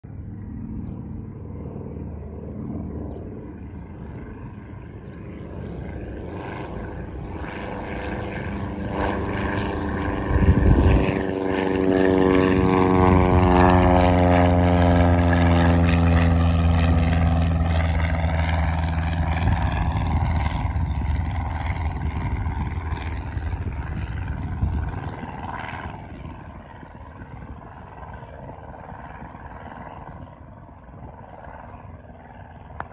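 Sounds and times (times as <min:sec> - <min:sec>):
propeller plane passing overhead: 0:00.0 - 0:32.9.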